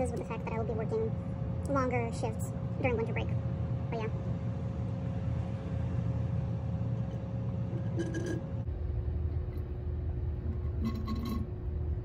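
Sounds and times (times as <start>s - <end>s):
low mechanical rumble: 0.0s - 12.0s
steady hum: 0.0s - 12.0s.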